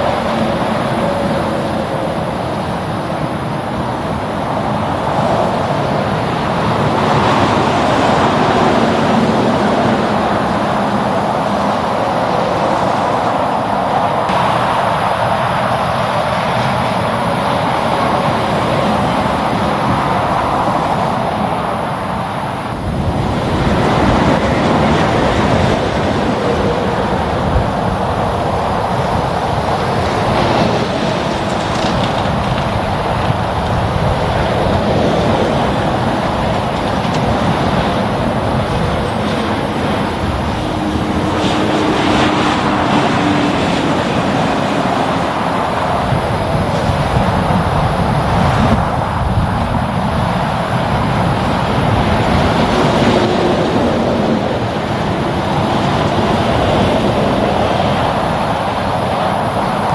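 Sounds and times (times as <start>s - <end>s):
highway traffic passing: 0.0s - 59.9s.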